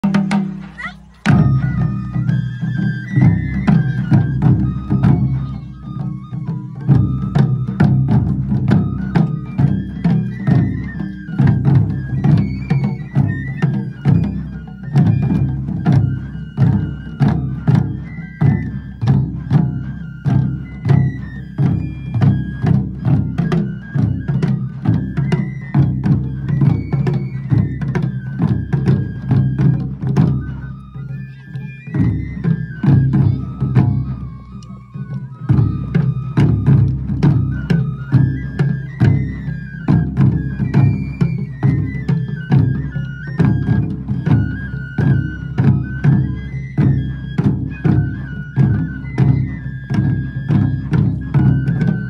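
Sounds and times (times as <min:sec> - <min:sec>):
taiko drums beating fast: 0:00.0 - 0:52.0.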